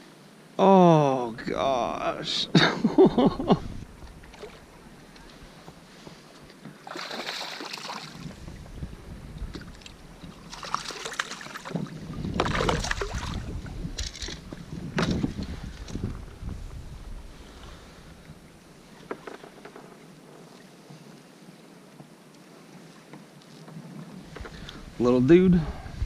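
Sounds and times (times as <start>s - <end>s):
low wind noise: 0.0s - 6.9s, 7.6s - 20.4s, 23.7s - 26.0s
water splashing around kayak: 3.6s - 25.3s.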